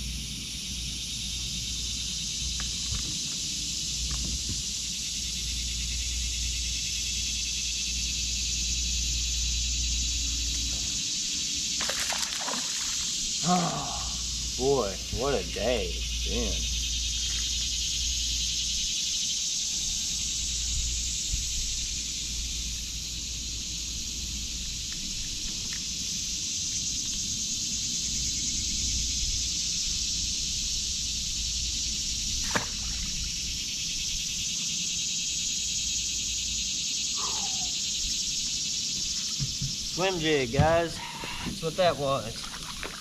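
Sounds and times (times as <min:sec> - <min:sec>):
insects chorus: 0:00.0 - 0:43.0.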